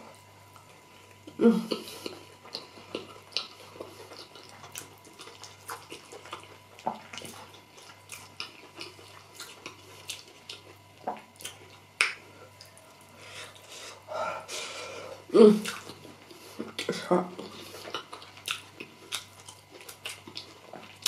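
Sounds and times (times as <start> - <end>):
chewing food: 0.2 - 13.7, 15.6 - 21.0.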